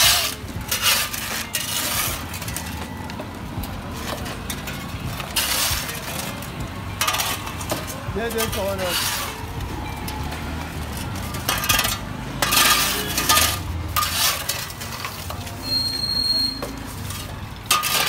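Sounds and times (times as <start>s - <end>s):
metal shovels scraping concrete: 0.0s - 18.0s.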